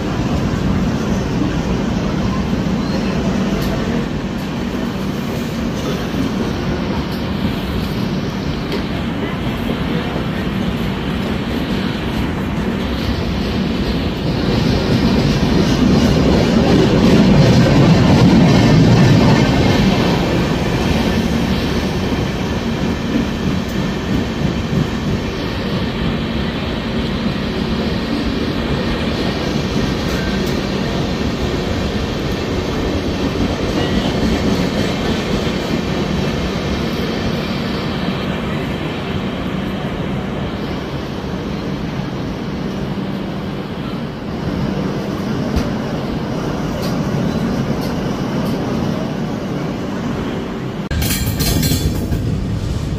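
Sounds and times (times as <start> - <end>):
train rumble and hum: 0.0 - 52.9.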